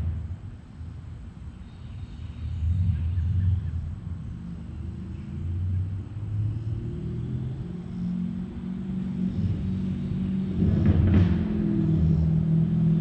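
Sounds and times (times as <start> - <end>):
car engine rumbling at low revs: 0.0 - 13.0.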